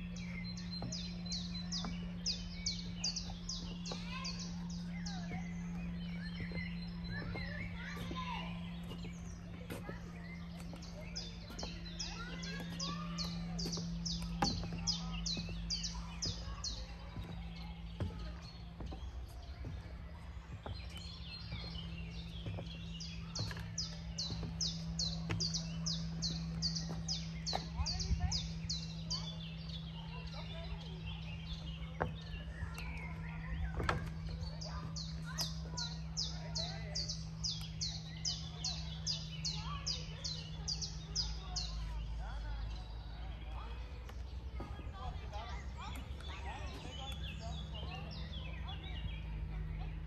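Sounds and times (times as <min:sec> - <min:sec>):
small birds chirping: 0:00.0 - 0:50.0
steady low hum: 0:00.0 - 0:50.0.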